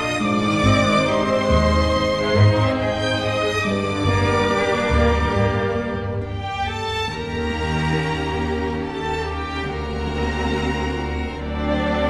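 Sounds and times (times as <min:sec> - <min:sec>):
orchestral strings led by violin: 0:00.0 - 0:12.0.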